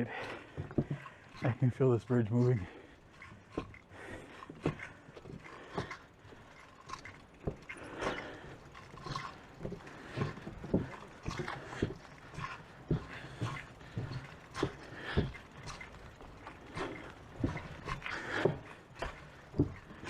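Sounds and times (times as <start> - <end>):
footsteps on wooden planks: 0.0 - 20.0.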